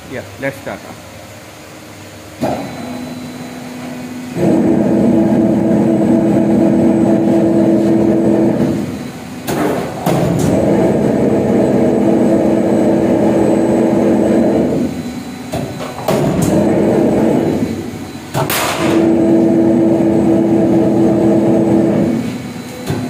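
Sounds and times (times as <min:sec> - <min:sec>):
roll forming machine running: 0:02.4 - 0:23.0.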